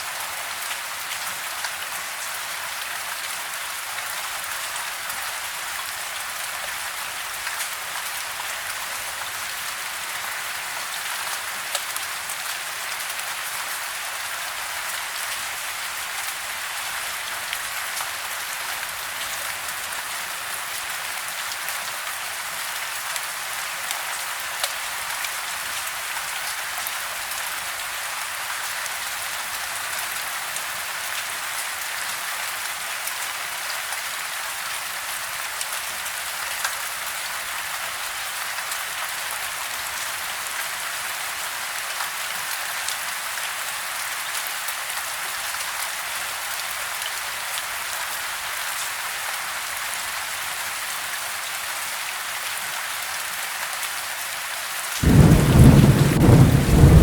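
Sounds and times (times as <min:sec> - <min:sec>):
rain falling on a house: 0:00.0 - 0:57.0.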